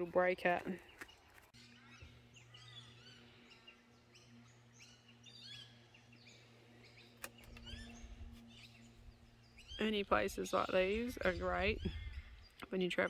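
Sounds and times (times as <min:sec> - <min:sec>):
small birds chirping: 0:00.0 - 0:13.0
low steady hum: 0:01.6 - 0:13.0.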